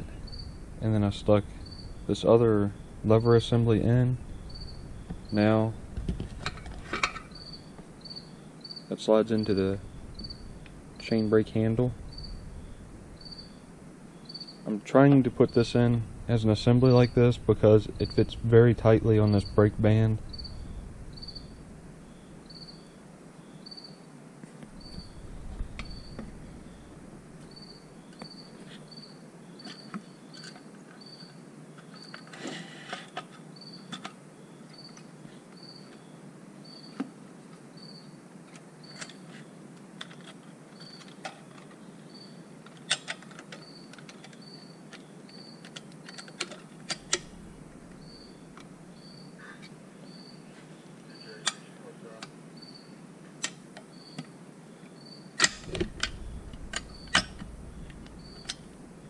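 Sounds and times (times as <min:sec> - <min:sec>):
cricket chirping: 0:00.0 - 0:37.0, 0:37.7 - 0:38.2, 0:38.8 - 0:53.0, 0:53.8 - 0:59.0.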